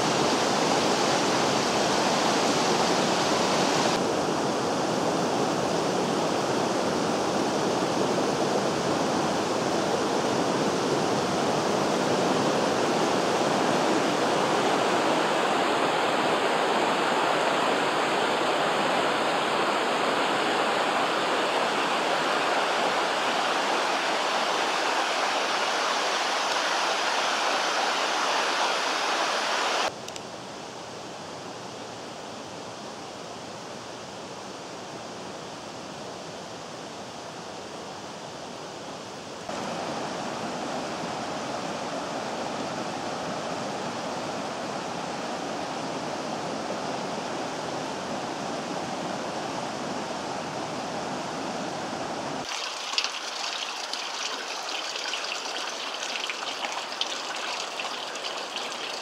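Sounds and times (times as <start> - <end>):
river water rushing: 0.0 - 30.0, 39.5 - 59.0.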